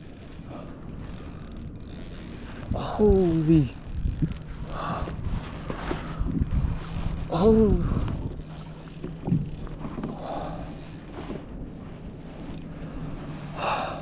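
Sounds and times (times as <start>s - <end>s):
fishing reel clicking: 0.0s - 14.0s.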